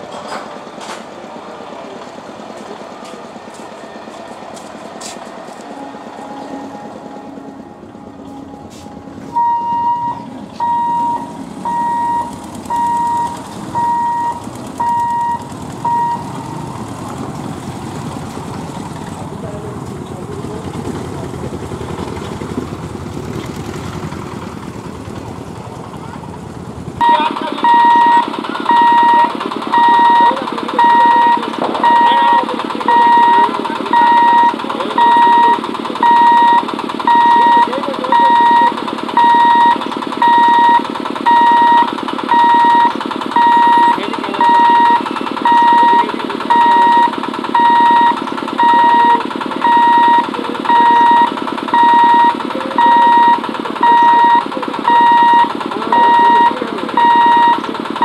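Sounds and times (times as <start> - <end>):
level crossing hooter beeping: 0.0 - 22.7, 27.0 - 58.0
approaching train running noise: 0.0 - 58.0.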